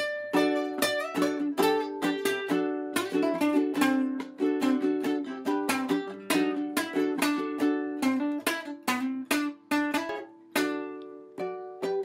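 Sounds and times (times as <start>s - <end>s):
ukulele strumming chords: 0.0s - 12.0s.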